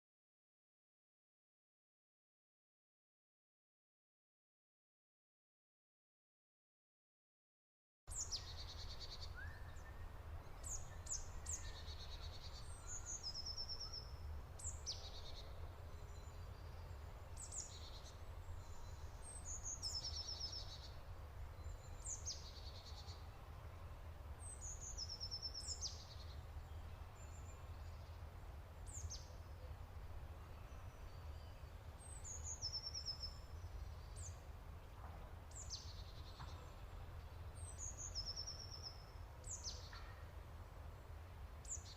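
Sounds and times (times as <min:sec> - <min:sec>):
songbird singing: 0:08.1 - 0:41.9.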